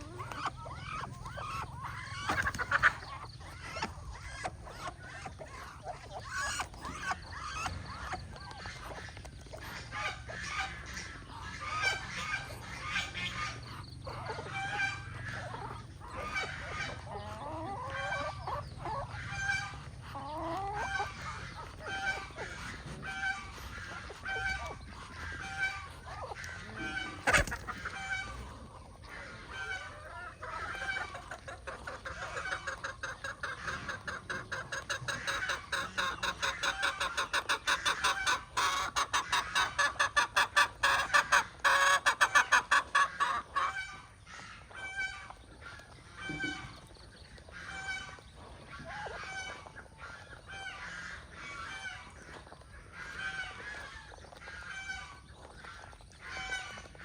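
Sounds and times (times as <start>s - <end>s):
chicks peeping: 0.0s - 57.0s
hen clucking: 0.0s - 57.0s.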